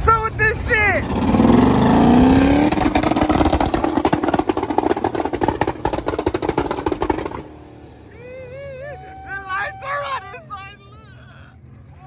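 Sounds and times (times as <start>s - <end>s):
car engine running with choppy pulsing: 0.0s - 12.0s.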